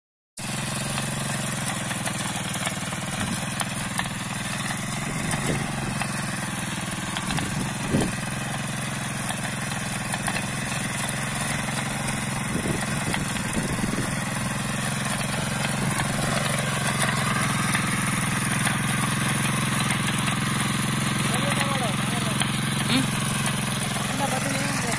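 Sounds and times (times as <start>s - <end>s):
small petrol engine under load: 0.4s - 24.9s
tiller tines digging soil: 0.4s - 24.9s.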